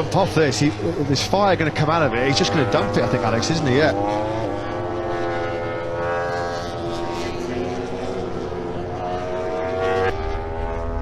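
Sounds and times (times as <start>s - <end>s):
racing motorcycle engines droning: 0.0s - 11.0s.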